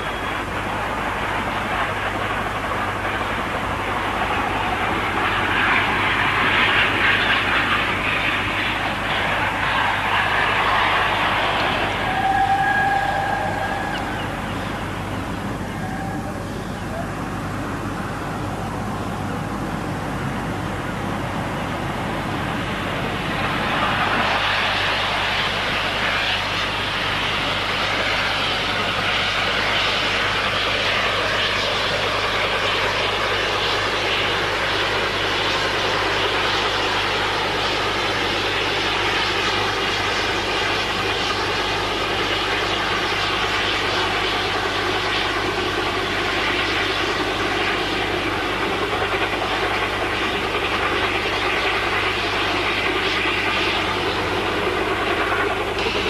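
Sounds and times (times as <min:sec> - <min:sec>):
steam locomotive working hard: 0:00.0 - 0:56.0.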